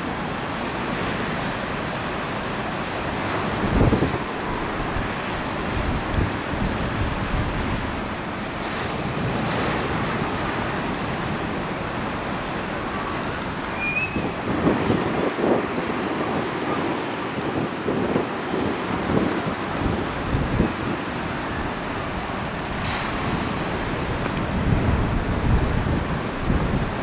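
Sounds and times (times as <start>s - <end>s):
waves splashing and breaking: 0.0s - 27.0s
wind buffeting microphone: 3.0s - 27.0s.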